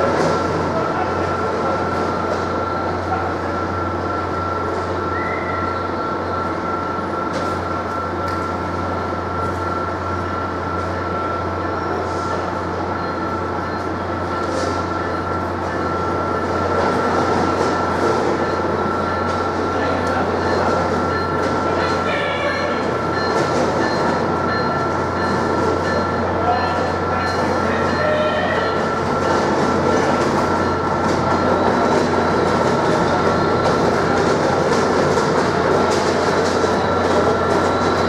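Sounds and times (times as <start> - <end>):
passenger train creeping in: 0.0 - 38.0
trains idling: 0.0 - 38.0.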